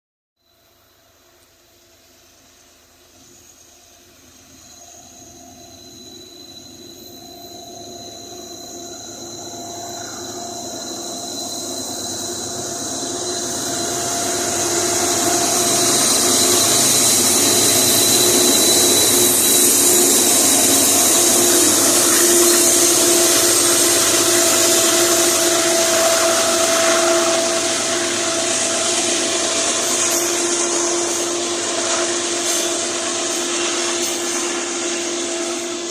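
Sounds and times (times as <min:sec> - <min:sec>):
diesel locomotive engines: 0:00.7 - 0:35.9
steel wheels hissing on rail: 0:00.8 - 0:35.9
steady tones: 0:06.6 - 0:35.9.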